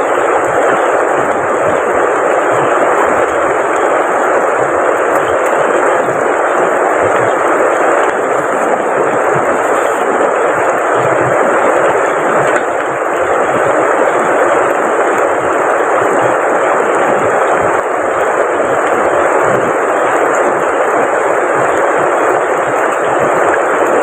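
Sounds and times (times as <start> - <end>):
heavy rain pouring: 0.0 - 24.0
rushing river water: 0.0 - 24.0.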